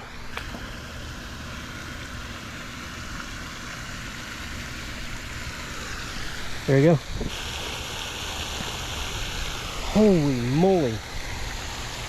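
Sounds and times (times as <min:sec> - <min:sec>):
even hiss: 0:00.0 - 0:12.0
low outdoor rumble: 0:00.0 - 0:12.0.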